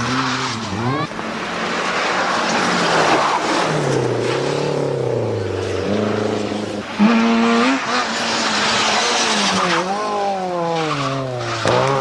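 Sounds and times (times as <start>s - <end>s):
car passing by: 0.0s - 10.0s
rally car engines revving: 0.0s - 12.0s.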